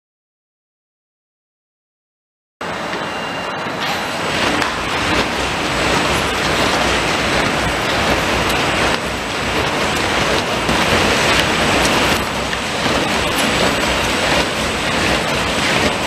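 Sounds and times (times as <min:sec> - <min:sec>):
steady machine noise: 0:02.6 - 0:16.0.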